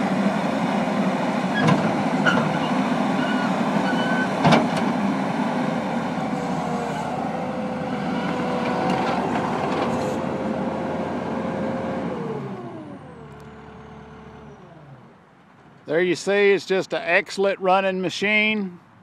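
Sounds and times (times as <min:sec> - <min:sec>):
diesel engine whining: 0:00.0 - 0:15.7.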